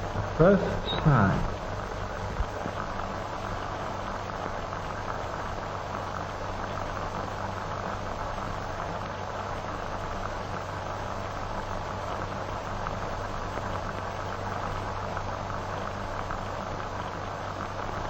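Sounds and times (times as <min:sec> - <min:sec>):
faint low hum: 0:00.0 - 0:18.0
film soundtrack hiss and crackle: 0:00.0 - 0:18.0.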